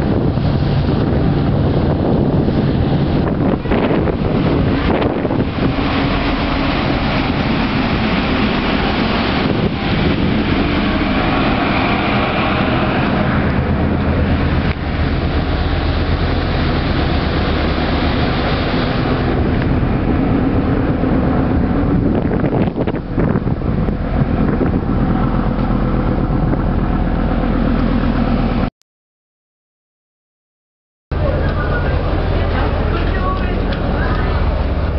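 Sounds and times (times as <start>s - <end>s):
ferry machinery drone: 0.0s - 28.7s, 31.1s - 34.9s
rushing noise: 0.0s - 28.7s.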